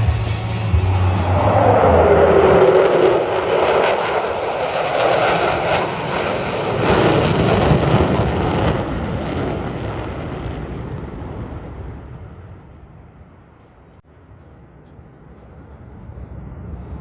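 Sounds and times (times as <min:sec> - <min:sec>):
fighter jet engine roar: 0:00.0 - 0:17.0.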